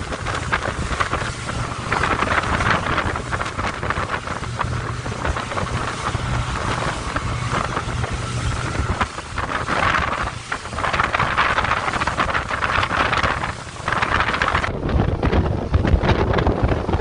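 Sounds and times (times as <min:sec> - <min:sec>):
outboard motors droning: 0:00.0 - 0:17.0
rushing water: 0:00.0 - 0:17.0
wind buffeting microphone: 0:00.0 - 0:17.0.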